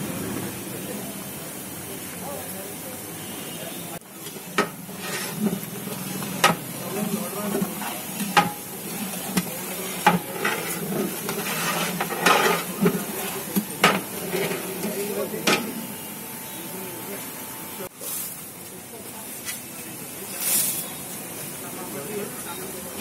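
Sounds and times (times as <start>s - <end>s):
onions sizzling in oil: 4.0s - 23.0s.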